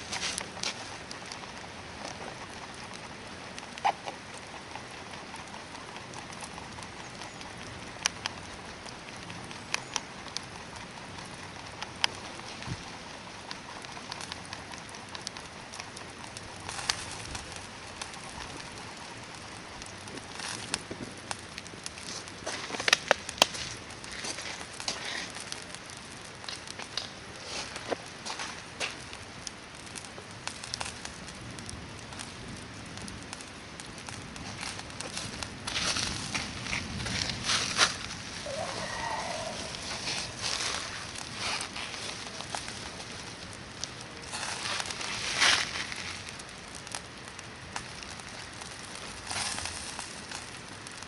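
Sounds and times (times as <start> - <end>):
campfire hissing: 0.0 - 51.0
fire crackles and pops: 0.0 - 51.0.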